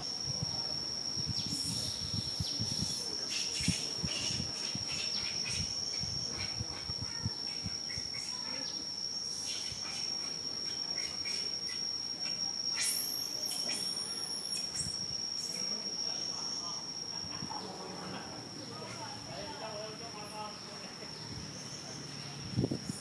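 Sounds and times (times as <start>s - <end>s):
high-pitched insect drone: 0.0s - 23.0s
short high insect calls: 0.0s - 23.0s.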